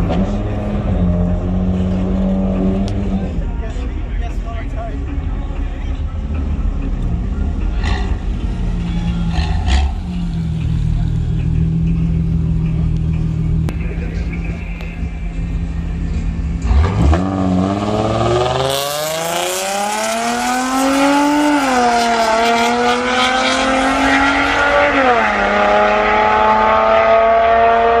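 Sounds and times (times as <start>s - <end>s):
vehicle engine accelerating: 0.0s - 3.9s, 5.0s - 28.0s.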